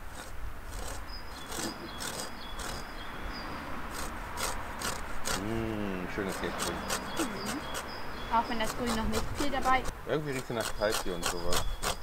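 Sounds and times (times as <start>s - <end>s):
zest grated on metal grater: 0.0s - 3.0s, 3.8s - 12.0s.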